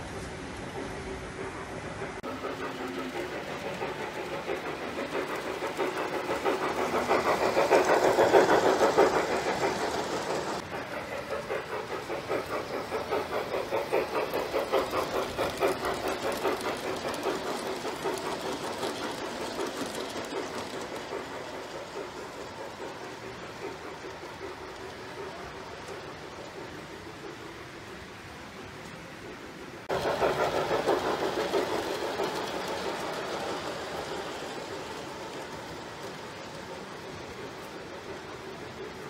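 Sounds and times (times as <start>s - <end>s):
model trains clattering on track: 0.0s - 39.0s.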